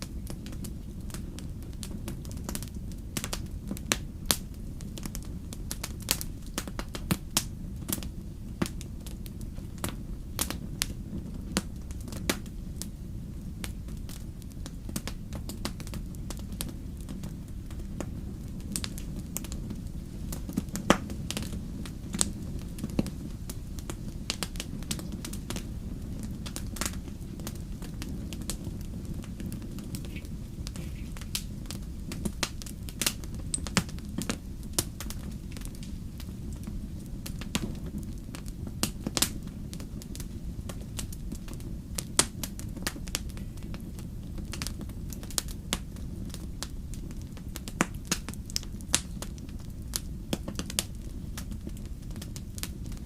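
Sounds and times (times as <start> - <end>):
low rumble of burning: 0.0 - 53.0
wood fire crackling and popping: 0.0 - 53.0.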